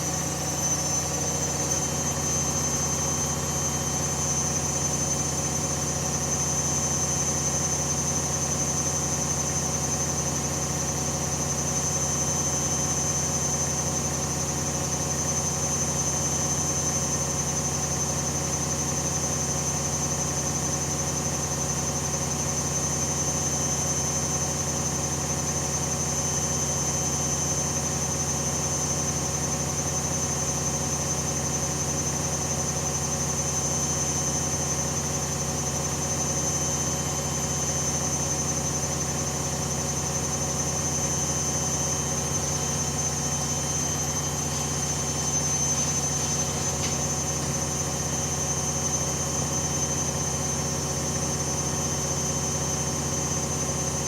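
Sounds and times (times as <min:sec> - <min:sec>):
washing machine spinning: 0:00.0 - 0:23.3, 0:27.7 - 0:54.0.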